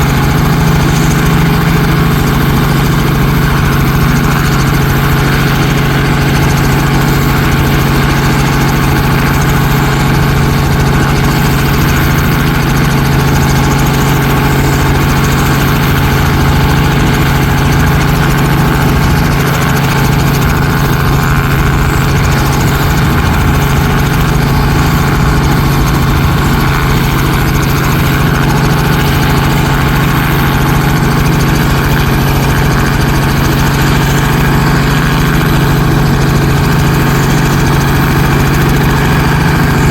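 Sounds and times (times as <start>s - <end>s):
loud engine idling: 0.0s - 39.9s.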